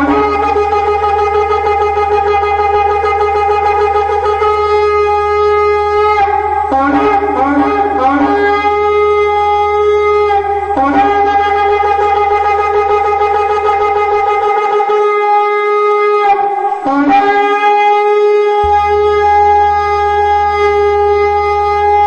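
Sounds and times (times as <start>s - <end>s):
shofar blowing: 0.0s - 22.0s.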